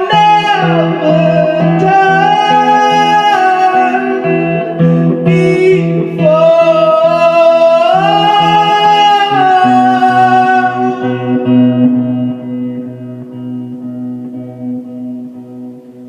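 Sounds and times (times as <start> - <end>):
blues song: 0.0 - 16.0.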